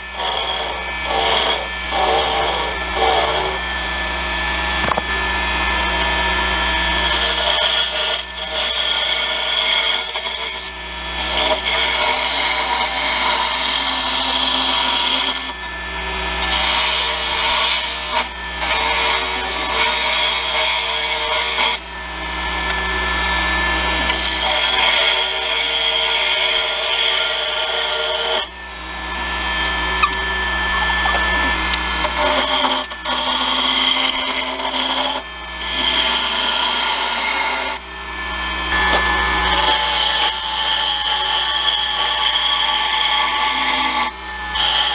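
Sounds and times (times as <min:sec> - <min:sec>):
lathe motor hum: 0:00.0 - 0:44.9
lathe tool scraping wood: 0:00.0 - 0:44.9.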